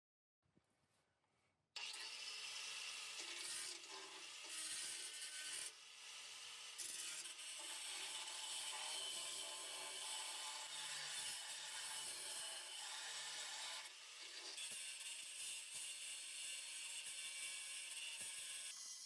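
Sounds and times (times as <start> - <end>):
power tool cutting steel pipe: 1.8 - 19.0.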